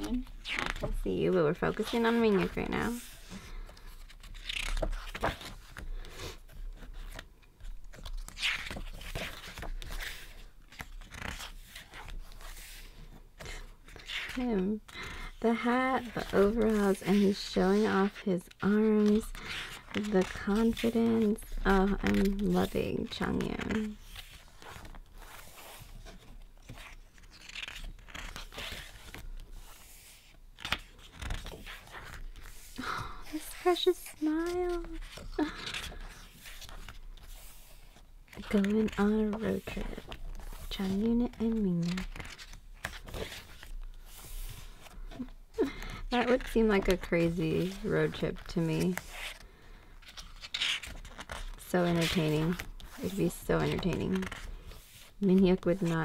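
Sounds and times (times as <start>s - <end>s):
page turning: 0.0s - 14.4s, 16.0s - 56.0s
book pages rustling: 0.0s - 56.0s.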